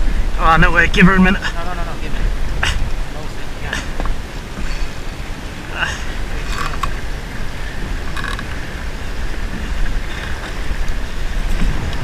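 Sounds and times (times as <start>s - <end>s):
wind and sea rumble: 0.0s - 12.0s.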